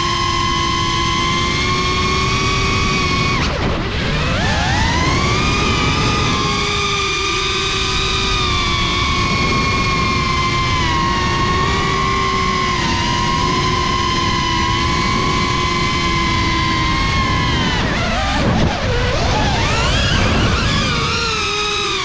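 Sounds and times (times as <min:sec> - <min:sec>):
drone motors and propellers whining: 0:00.0 - 0:22.0.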